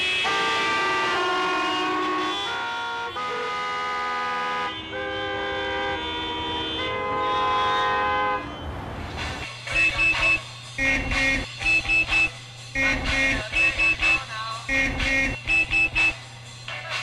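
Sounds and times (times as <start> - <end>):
car horn short toots: 0.0 - 8.6, 9.6 - 16.2
car horns in chords: 0.0 - 8.6, 9.6 - 16.3.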